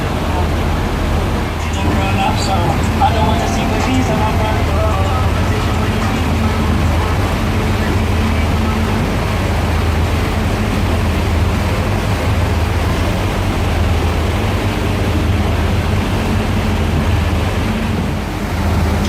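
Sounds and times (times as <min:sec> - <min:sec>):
ferry engines humming: 0:00.0 - 0:19.0
water rushing: 0:00.0 - 0:19.0
wind: 0:00.0 - 0:19.0.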